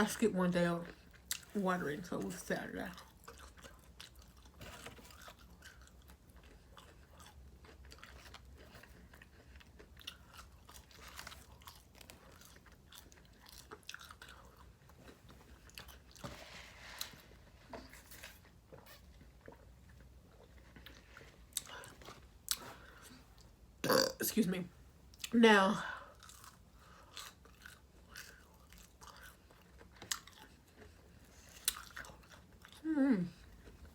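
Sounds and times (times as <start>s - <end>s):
person chewing food: 0.9s - 1.6s, 2.9s - 24.1s, 26.0s - 33.9s.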